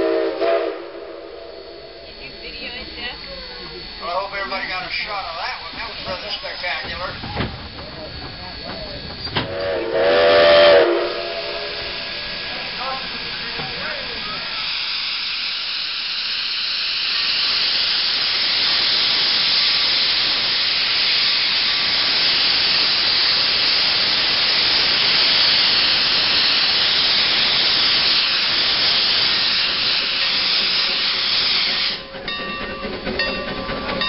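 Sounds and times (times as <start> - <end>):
steam venting hiss: 0.0 - 34.0.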